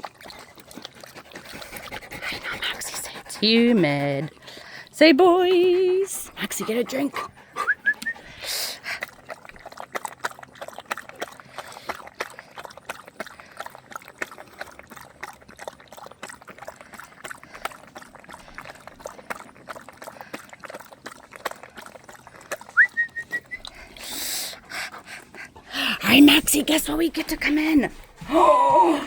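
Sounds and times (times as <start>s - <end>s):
dog lapping water: 0.0s - 29.0s.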